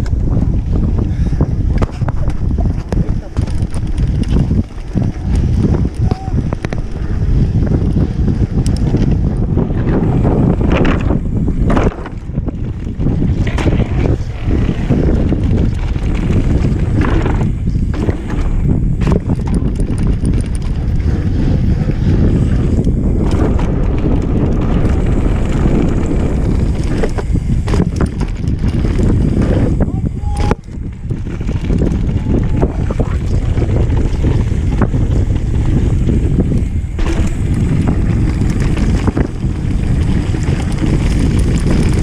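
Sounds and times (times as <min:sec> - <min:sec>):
bike knocking and rattling: 0:00.0 - 0:42.0
wind rumbling on microphone: 0:00.0 - 0:42.0
tyres rolling over dirt: 0:01.6 - 0:42.0.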